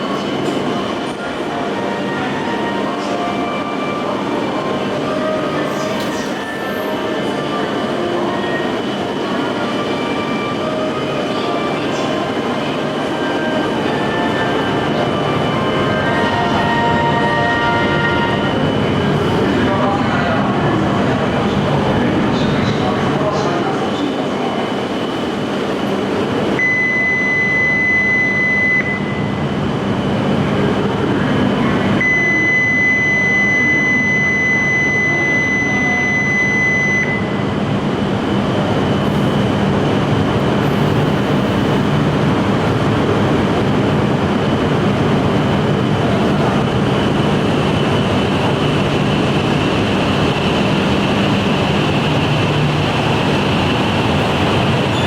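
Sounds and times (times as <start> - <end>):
train rumble and whine: 0.0 - 55.0.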